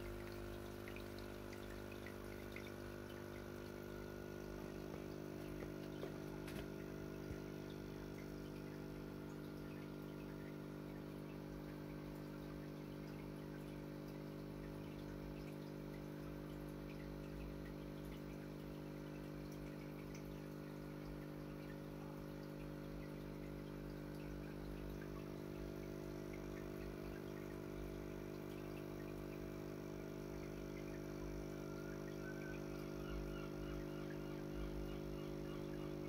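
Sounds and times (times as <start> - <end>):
aquarium filter motor humming: 0.0 - 36.0.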